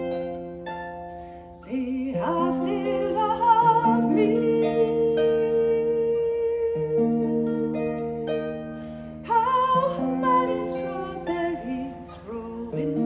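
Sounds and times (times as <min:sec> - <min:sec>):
harp being plucked: 0:00.0 - 0:13.0
woman singing with vibrato: 0:01.7 - 0:08.4, 0:09.2 - 0:13.0.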